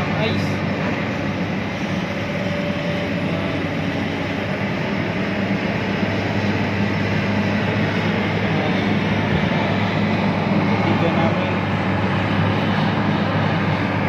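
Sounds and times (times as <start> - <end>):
diesel machinery running: 0.0 - 14.0.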